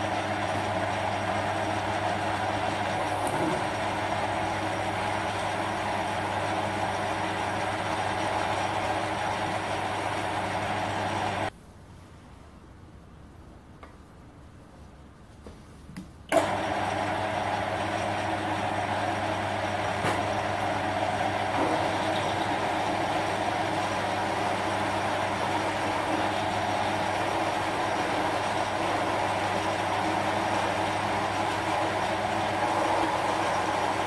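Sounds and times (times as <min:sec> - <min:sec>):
metal lathe motor hum and whine: 0:00.0 - 0:11.5, 0:16.4 - 0:34.0.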